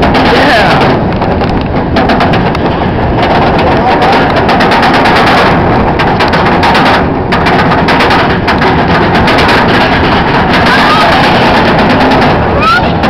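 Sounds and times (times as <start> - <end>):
roller coaster chain lift clattering: 0.0 - 13.0.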